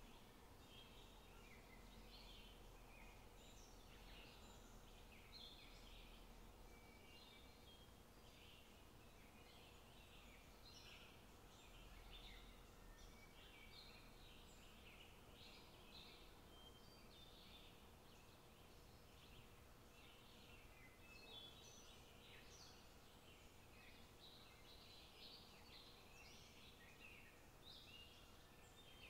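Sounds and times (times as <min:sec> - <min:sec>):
faint bird chirps: 0:00.0 - 0:29.0
faint steady hum: 0:00.0 - 0:29.0.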